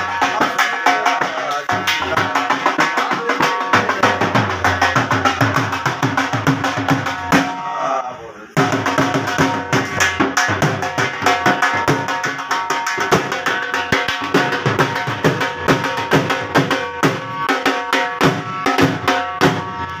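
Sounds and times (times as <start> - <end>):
barrel drum played fast: 0.0 - 7.6, 8.6 - 19.9.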